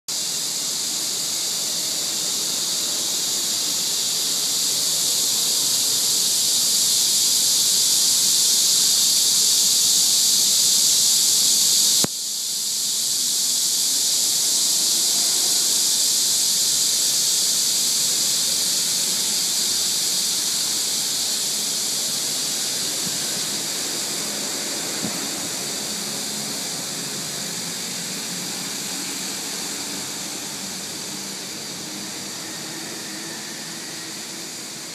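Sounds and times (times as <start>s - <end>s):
cicadas droning: 0.1s - 34.9s.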